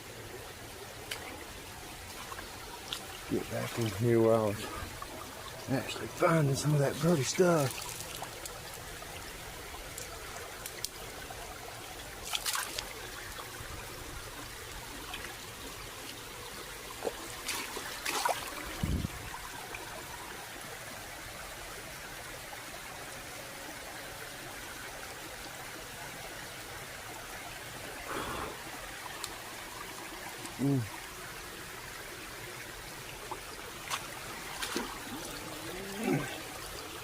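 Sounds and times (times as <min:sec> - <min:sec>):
water trickling over rocks: 0:00.0 - 0:37.0.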